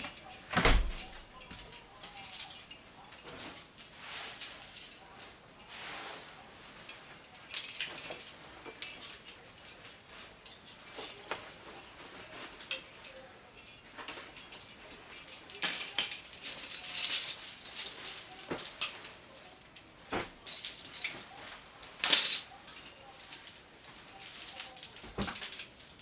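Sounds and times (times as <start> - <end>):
climbing hardware clinking: 0.0 - 26.0.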